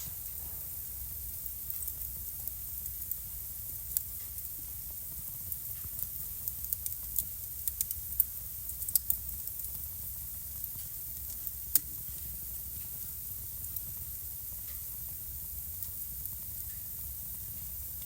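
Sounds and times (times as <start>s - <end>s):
fire crackles and pops: 0.0s - 18.0s
wood fire hissing: 0.0s - 18.0s.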